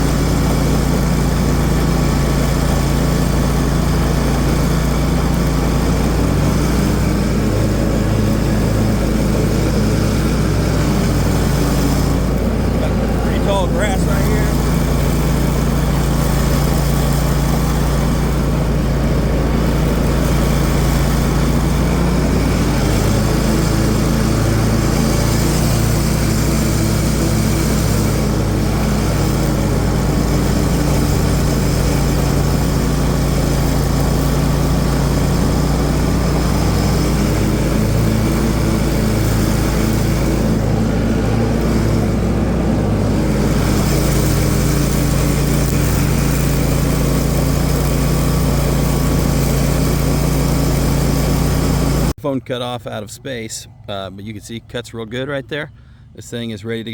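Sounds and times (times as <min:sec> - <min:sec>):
lawn mower engine running: 0:00.0 - 0:56.9
mower blades cutting grass: 0:00.0 - 0:56.9.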